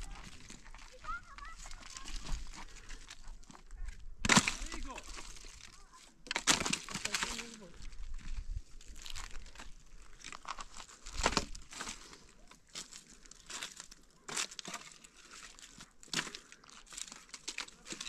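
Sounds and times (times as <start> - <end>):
sticks crackling and rustling: 0.0 - 18.0.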